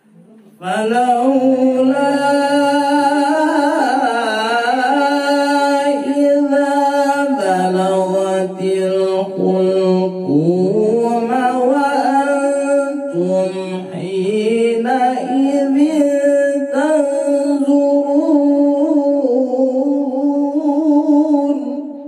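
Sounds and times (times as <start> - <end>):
man reciting melodically: 0.0 - 22.0.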